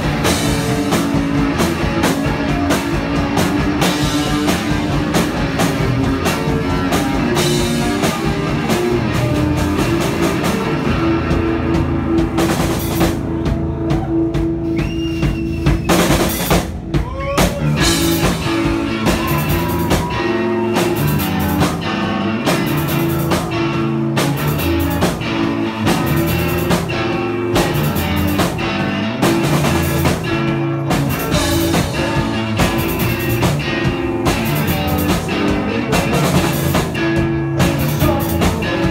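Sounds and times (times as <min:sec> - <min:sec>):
bass guitar: 0:00.0 - 0:38.9
drum kit: 0:00.0 - 0:38.9
electric guitars: 0:00.0 - 0:38.9.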